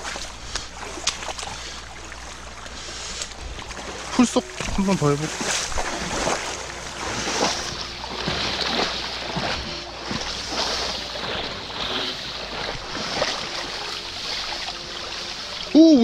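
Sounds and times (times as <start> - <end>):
stick splashing in water: 0.0 - 1.7, 3.2 - 15.7
rushing stream: 0.0 - 16.0.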